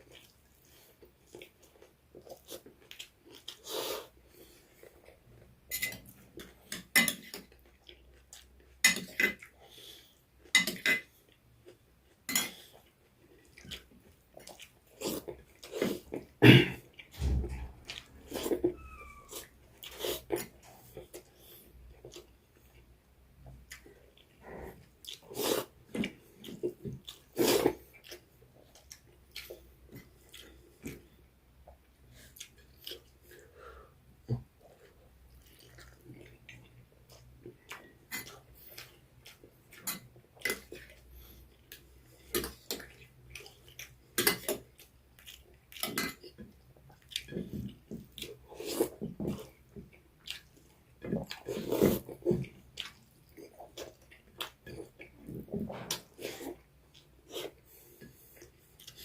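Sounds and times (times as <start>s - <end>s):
person chewing and smacking: 0.0s - 5.4s, 6.1s - 9.7s, 10.3s - 33.6s, 34.2s - 59.0s.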